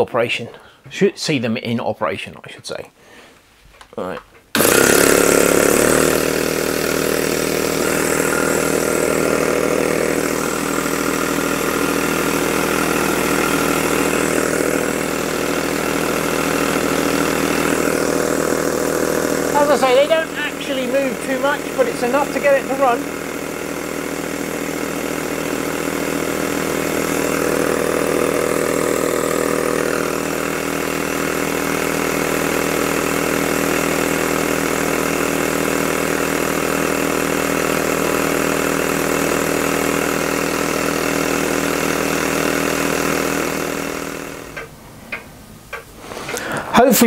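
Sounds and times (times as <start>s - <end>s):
electric air compressor running: 4.5s - 44.9s
model steam engine running: 4.6s - 44.7s.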